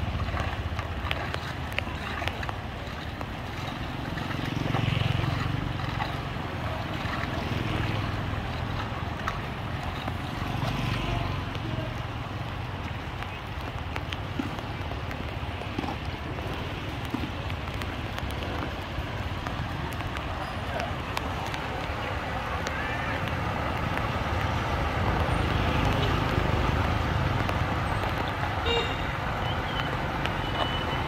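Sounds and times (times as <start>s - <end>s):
motorbikes passing on wet road: 0.0s - 31.0s.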